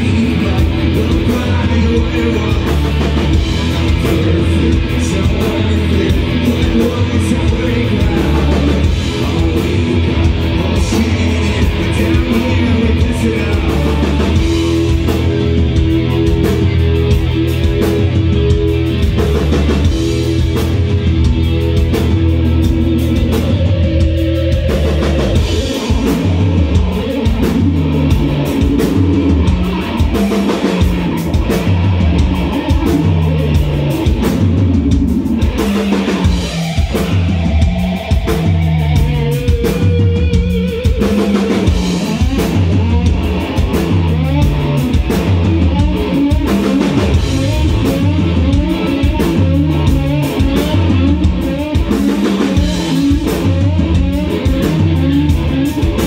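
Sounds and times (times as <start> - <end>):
bass line: 0.0 - 56.0
drums: 0.0 - 56.0
rock band playing live: 0.0 - 56.0.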